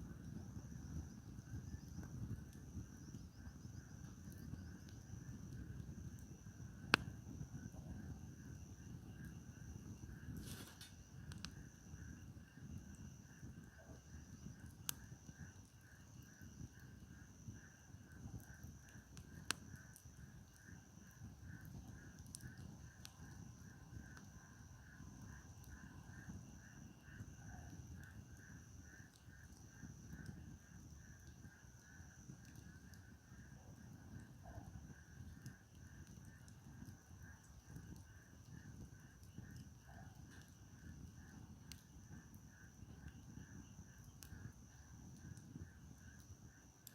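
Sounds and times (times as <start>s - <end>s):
campfire crackling: 0.0s - 46.9s
insects trilling: 0.0s - 46.9s.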